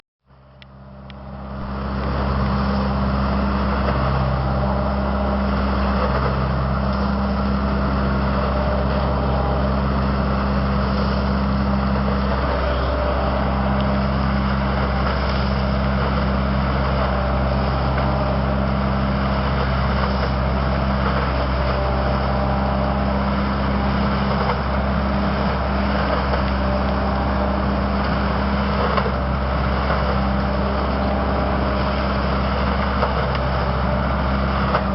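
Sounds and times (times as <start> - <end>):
leaf collector engine droning: 0.3 - 34.9.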